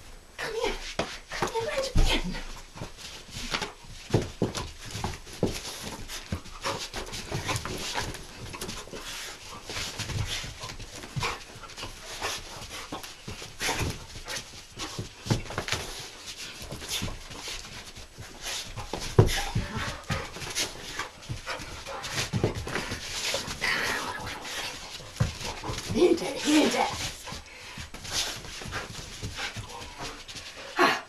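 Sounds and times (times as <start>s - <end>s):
paws scuffing on hard floor: 0.5s - 30.8s
dog panting: 1.0s - 31.0s.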